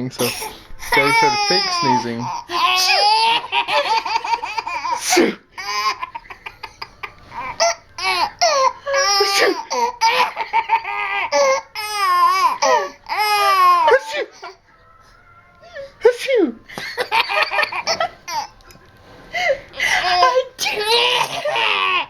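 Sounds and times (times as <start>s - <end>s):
child laughing hysterically: 0.9s - 14.6s, 16.7s - 18.7s, 19.5s - 22.0s.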